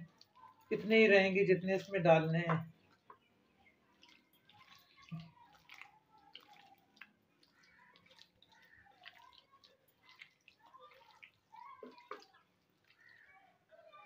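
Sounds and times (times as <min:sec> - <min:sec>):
wet squelching of kneaded meat: 0:00.0 - 0:14.0.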